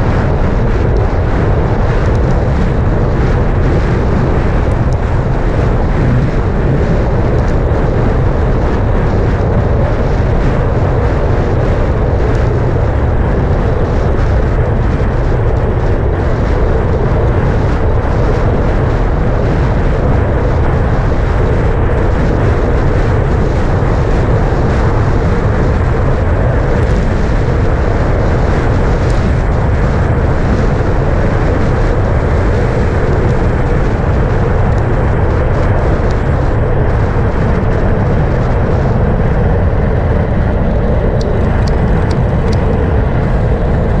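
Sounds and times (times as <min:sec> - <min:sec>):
wind roar on microphone: 0:00.0 - 0:44.0.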